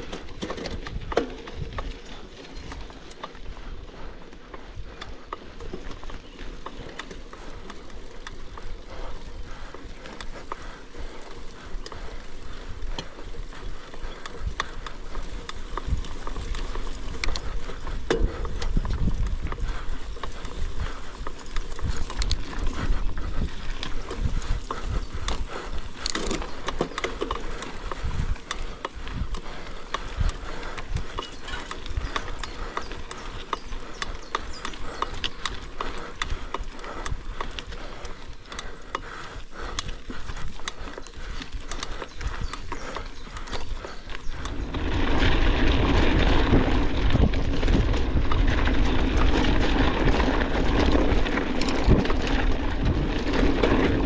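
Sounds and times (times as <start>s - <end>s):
bike rattling on rough ground: 0.0s - 54.0s.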